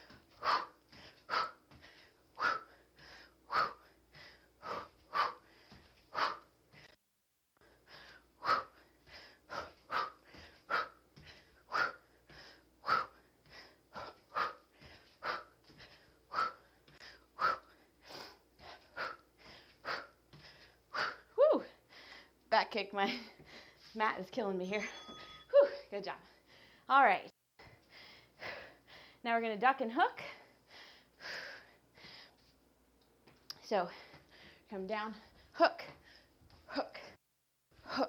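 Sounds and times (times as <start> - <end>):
woman breathing heavily: 0.0 - 7.0, 7.6 - 24.0, 25.6 - 26.9, 27.6 - 29.2, 30.2 - 32.6, 33.6 - 38.0.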